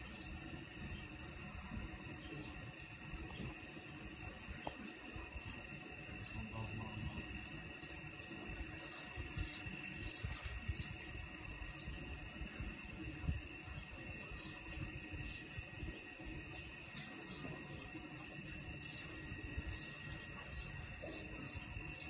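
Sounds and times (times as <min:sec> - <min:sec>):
high insect drone: 0:00.0 - 0:22.0
low rumbling noise: 0:00.0 - 0:22.0.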